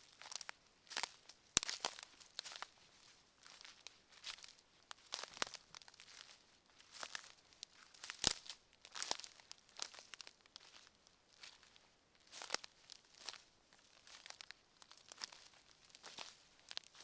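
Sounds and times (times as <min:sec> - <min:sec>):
footsteps crunching on forest floor: 0:00.0 - 0:17.0.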